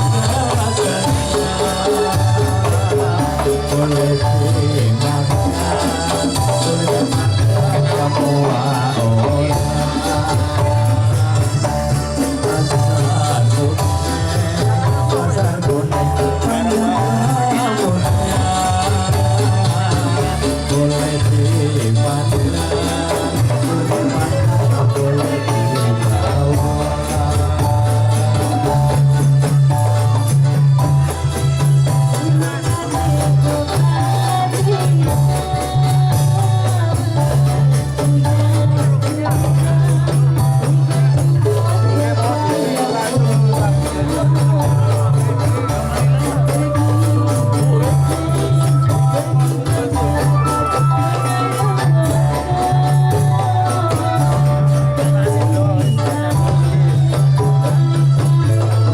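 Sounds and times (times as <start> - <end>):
electronic keyboard melody: 0.0 - 58.9
hand drums beating: 0.0 - 58.9
jingling percussion: 0.0 - 58.9
pulsing bass line: 0.0 - 58.9.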